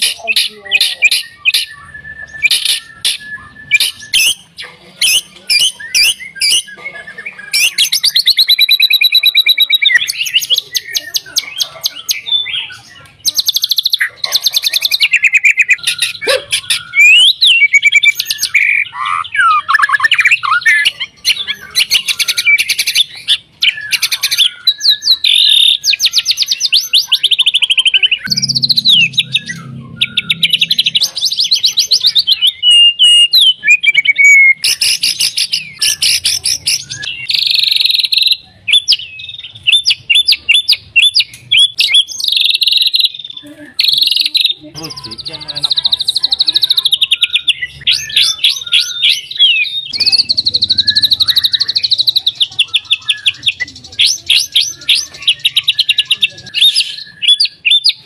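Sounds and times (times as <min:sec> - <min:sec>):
bird singing rapid notes and trills: 0:00.0 - 0:58.0.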